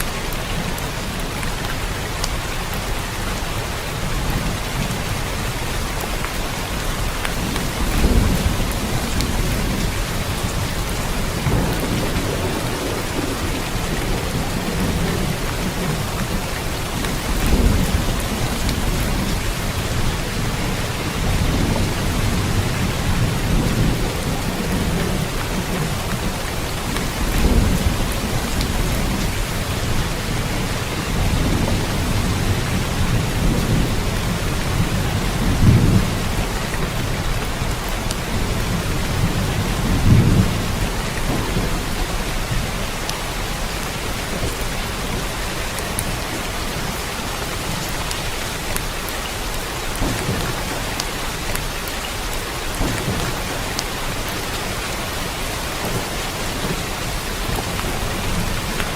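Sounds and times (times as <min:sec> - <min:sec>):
heavy rain hissing: 0:00.0 - 0:58.9
distant thunder rumbling: 0:04.0 - 0:58.9.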